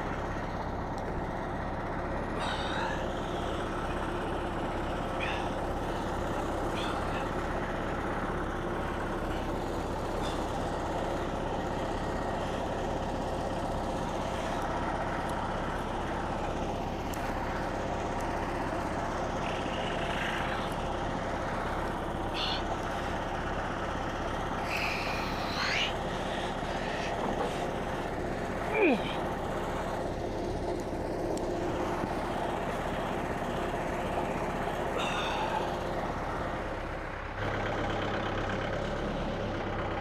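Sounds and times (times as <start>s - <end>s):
bandsaw mill engine droning: 0.0s - 40.0s.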